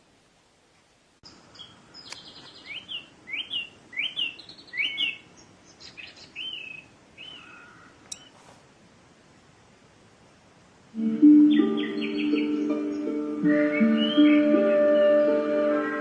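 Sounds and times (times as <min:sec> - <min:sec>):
recorded birdsong chirps: 0:01.1 - 0:16.0.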